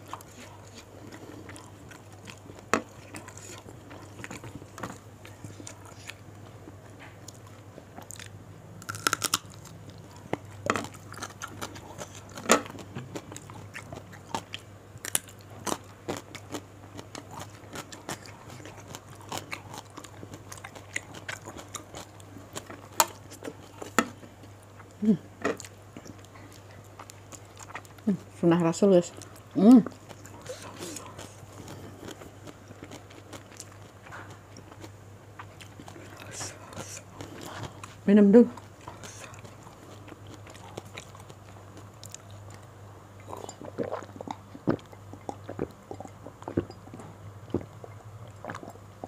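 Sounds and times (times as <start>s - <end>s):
crunchy chewing: 0.0s - 28.1s, 29.1s - 38.0s, 38.6s - 48.8s
faint low hum: 0.0s - 49.0s.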